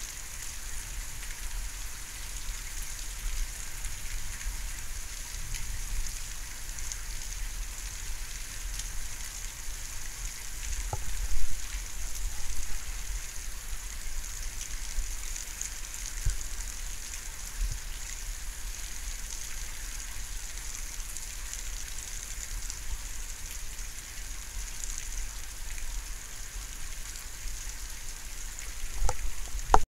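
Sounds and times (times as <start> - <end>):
sharp drips and ticks: 0.0 - 29.8
rain falling steadily: 0.0 - 29.9.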